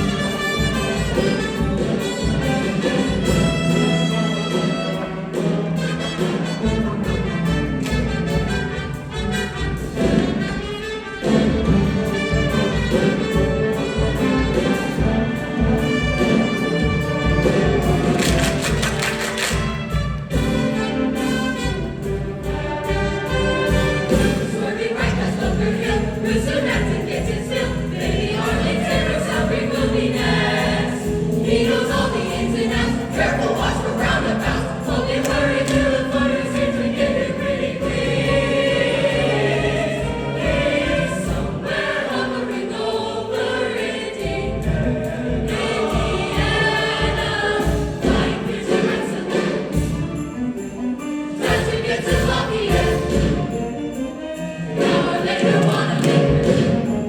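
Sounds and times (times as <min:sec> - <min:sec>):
choir singing: 0:00.0 - 0:57.0
musical accompaniment with steady beat: 0:00.0 - 0:57.0.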